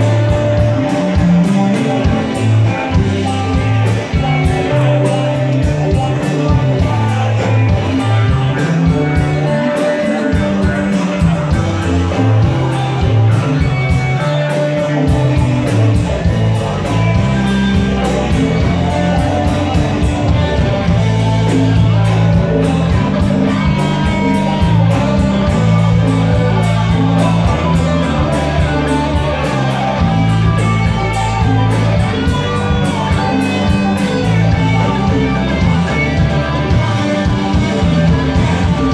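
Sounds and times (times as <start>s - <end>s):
bass line: 0.0s - 38.9s
live band playing: 0.0s - 38.9s.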